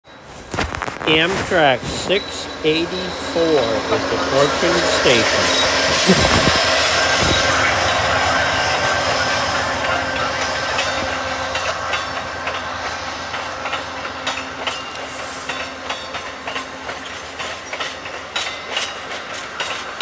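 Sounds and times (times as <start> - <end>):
train rolling rumble: 0.0 - 20.0
train wheels clicking over rail joints: 0.5 - 20.0.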